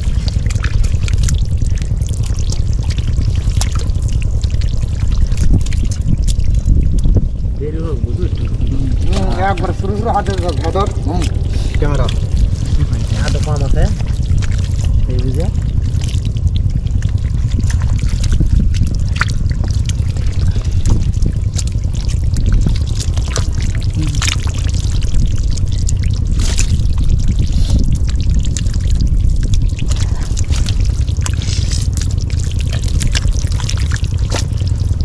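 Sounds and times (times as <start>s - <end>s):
steady low rumble: 0.0s - 35.0s
water splashing and trickling: 0.0s - 35.0s.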